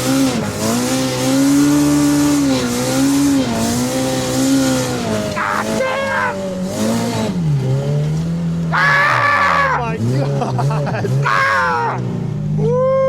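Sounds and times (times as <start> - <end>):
vehicle engine running under load: 0.0 - 13.0.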